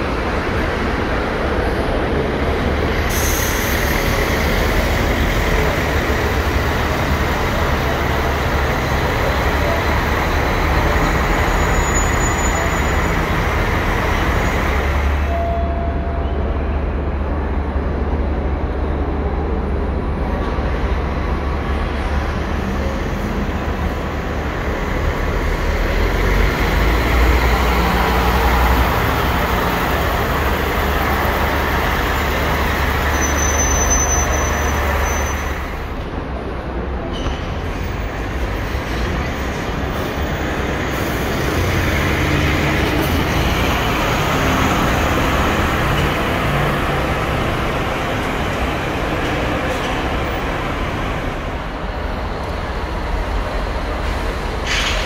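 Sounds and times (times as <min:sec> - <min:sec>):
bus diesel engines rumbling: 0:00.0 - 0:55.0
traffic rumble: 0:00.0 - 0:55.0.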